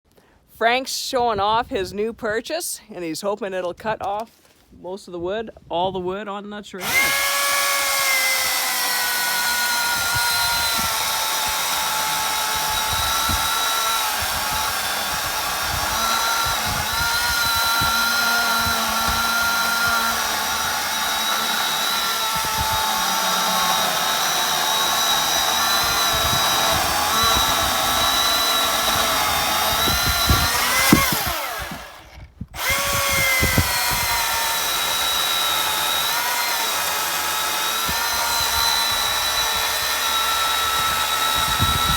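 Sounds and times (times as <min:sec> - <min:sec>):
electric chainsaw cutting wood: 0:06.8 - 0:41.9.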